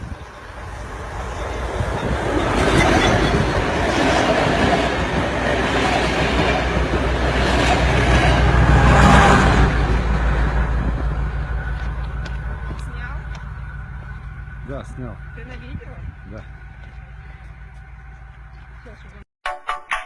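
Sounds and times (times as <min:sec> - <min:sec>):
rumbling vehicle noise: 0:00.0 - 0:19.2.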